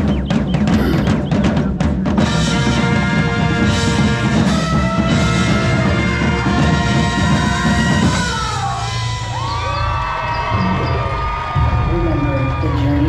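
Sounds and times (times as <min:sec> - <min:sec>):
brass and percussion chords: 0:00.0 - 0:12.4.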